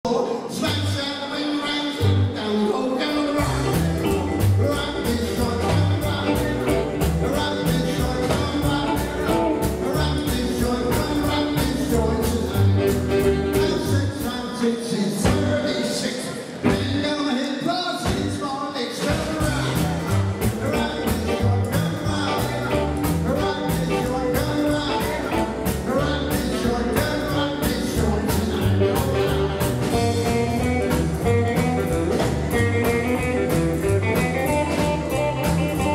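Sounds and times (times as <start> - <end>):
person singing: 0.0 - 35.9
drums: 0.1 - 35.9
electric guitars: 0.4 - 17.2, 19.0 - 35.9.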